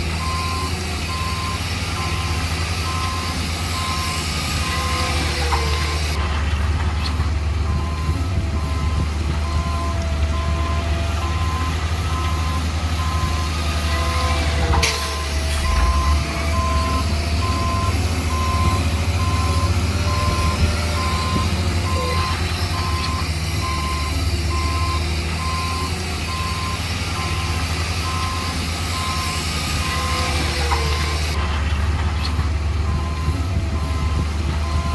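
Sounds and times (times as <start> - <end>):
diesel engine rumble: 0.0 - 34.9
reversing alarm beeps: 0.2 - 6.2, 7.7 - 31.4, 32.9 - 34.9.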